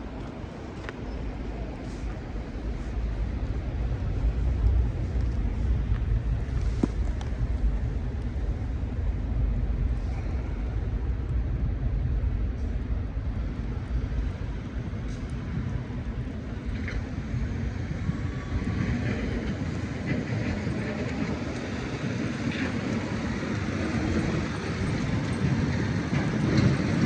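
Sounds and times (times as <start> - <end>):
heavy vehicle engines rumbling: 0.0 - 27.0.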